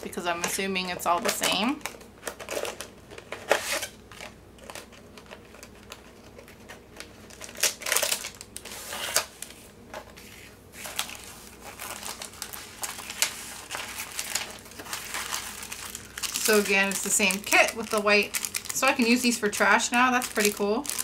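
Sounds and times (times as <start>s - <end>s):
plastic tube and canvas crinkling: 0.0s - 21.0s.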